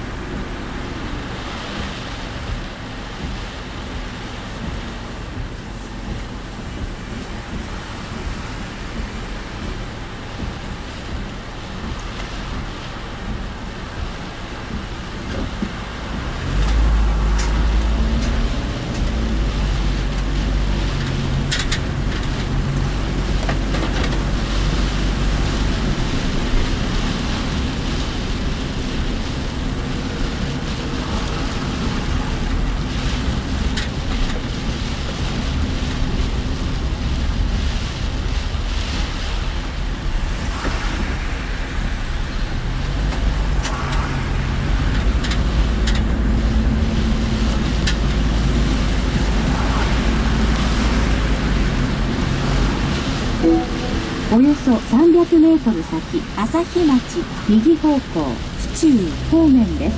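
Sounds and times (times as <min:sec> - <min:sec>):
car engine and road hum: 0:00.0 - 0:59.9
heavy rain on car: 0:00.0 - 0:59.9
tyre noise on wet road: 0:00.0 - 0:59.9.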